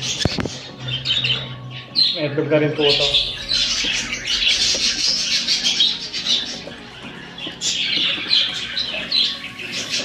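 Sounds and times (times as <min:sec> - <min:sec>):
parakeets chirping and chattering: 0:00.0 - 0:10.0.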